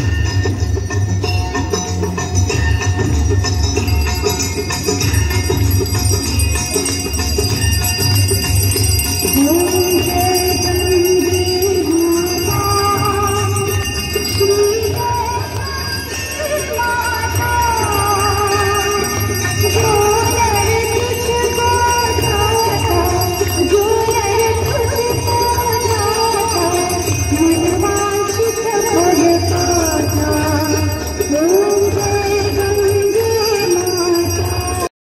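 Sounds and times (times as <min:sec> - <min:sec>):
bells ringing: 0:00.0 - 0:34.9.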